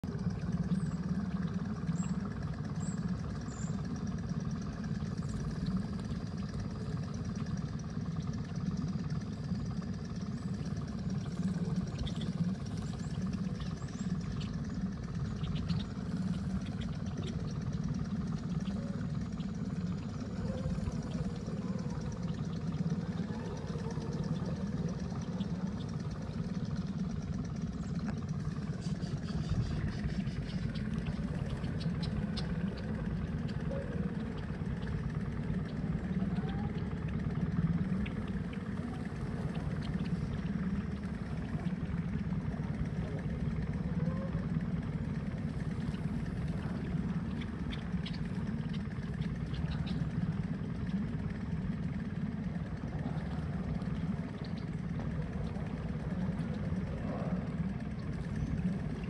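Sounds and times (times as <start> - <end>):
small boat motor running: 0.0 - 59.0.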